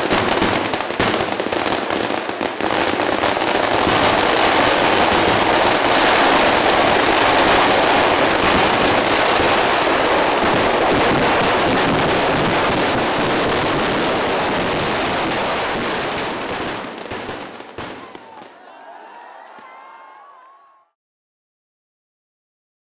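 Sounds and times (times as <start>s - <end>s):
firecrackers banging and crackling: 0.0s - 20.1s.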